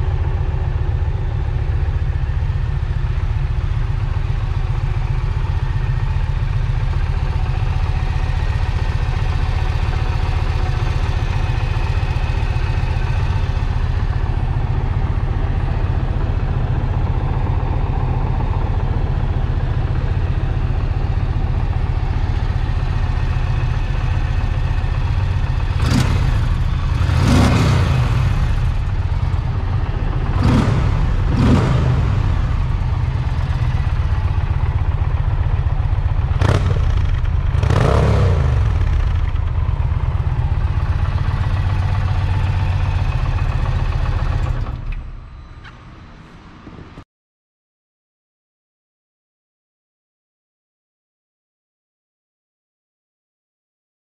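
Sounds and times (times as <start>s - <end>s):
motorcycle engine idling: 0.0s - 46.1s.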